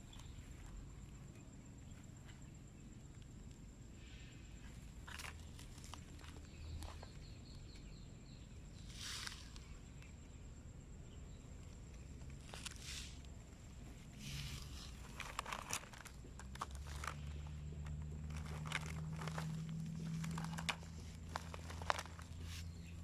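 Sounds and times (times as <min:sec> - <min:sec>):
faint high-pitched whine: 0:00.0 - 0:23.0.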